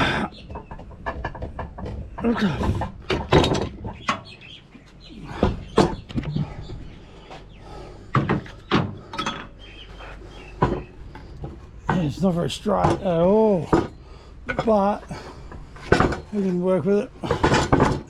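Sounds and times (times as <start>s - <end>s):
wooden slabs knocking: 0.0s - 4.3s, 5.2s - 6.8s, 8.1s - 9.5s, 10.4s - 18.0s
birds chirping: 0.0s - 18.0s.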